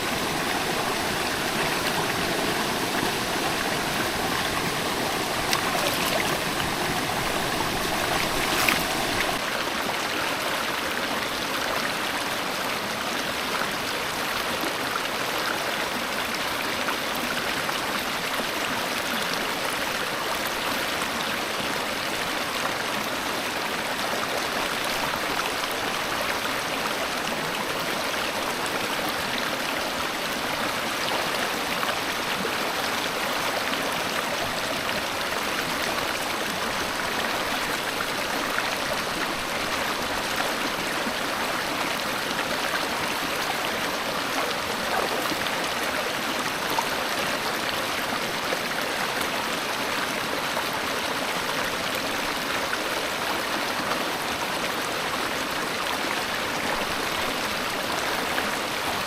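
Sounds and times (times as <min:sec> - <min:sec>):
stream water over rocks: 0:00.0 - 0:59.0.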